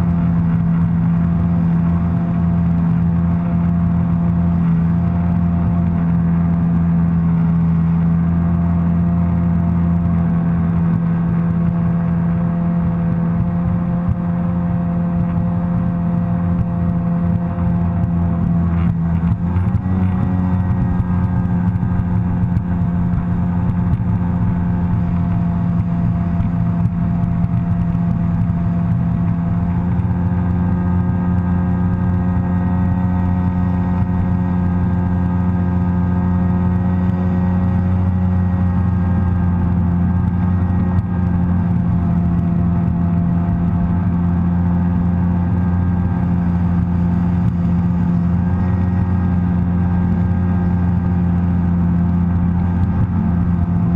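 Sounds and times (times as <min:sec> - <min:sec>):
watercraft engine running: 0:00.0 - 0:53.9.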